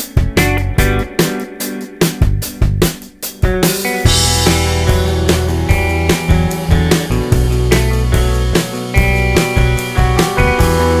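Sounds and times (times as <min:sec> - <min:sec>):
electric guitar: 0:00.0 - 0:11.0
instrumental rock music: 0:00.0 - 0:11.0
steady drum beat: 0:00.0 - 0:11.0.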